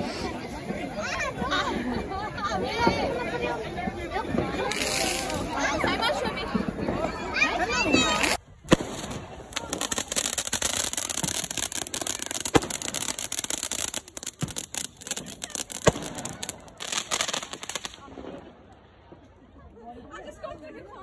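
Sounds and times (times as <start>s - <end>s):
fireworks bangs: 0.0s - 19.2s
fireworks crackling: 0.0s - 19.4s.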